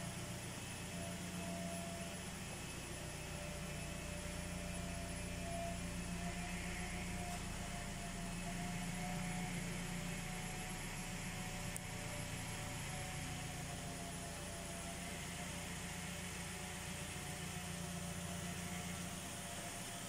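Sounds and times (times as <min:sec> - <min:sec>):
faint constant tones: 0:00.0 - 0:20.0
steady mechanical hum: 0:00.0 - 0:20.0.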